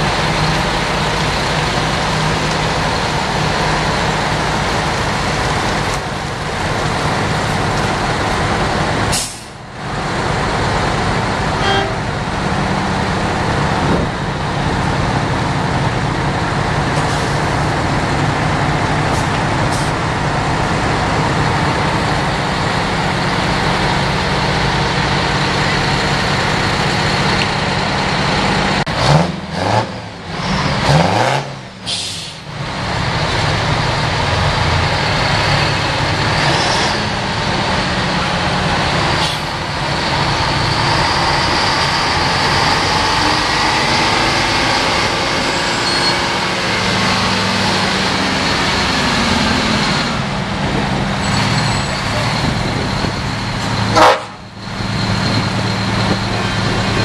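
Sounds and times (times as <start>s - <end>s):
heavy diesel trucks revving: 0.0s - 57.0s.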